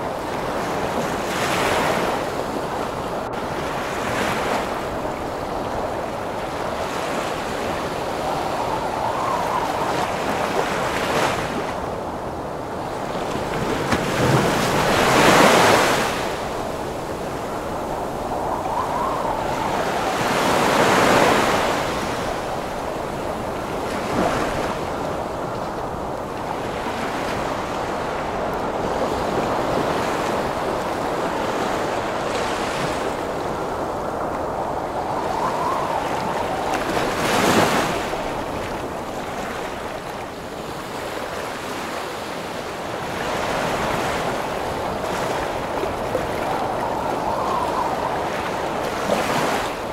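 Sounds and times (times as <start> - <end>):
faint whistle of wind: 0.0 - 49.9
heavy surf waves crashing: 0.0 - 49.9
wind: 0.0 - 49.9.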